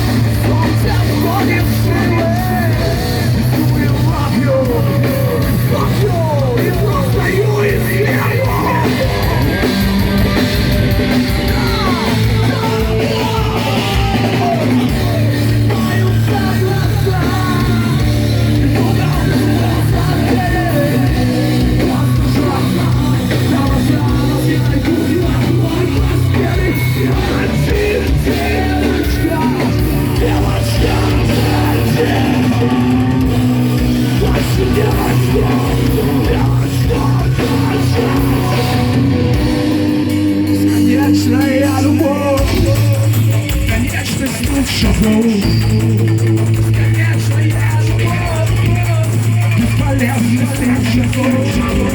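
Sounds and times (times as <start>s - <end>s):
shouted vocals: 0.0s - 43.1s
rock band playing live: 0.0s - 51.9s.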